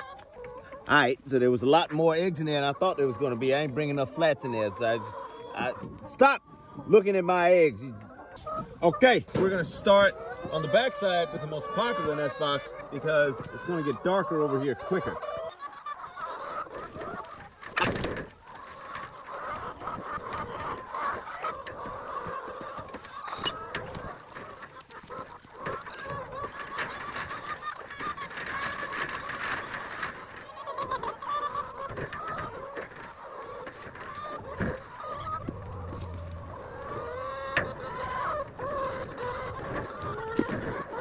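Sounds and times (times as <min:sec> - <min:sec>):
hens clucking: 0:00.0 - 0:41.0.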